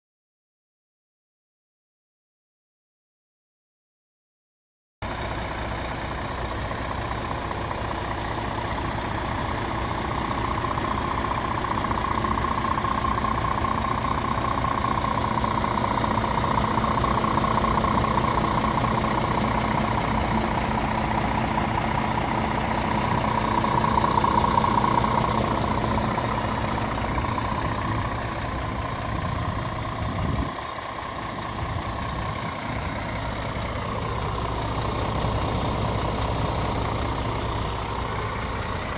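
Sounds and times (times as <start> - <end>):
diesel engine idling: 5.0 - 38.9.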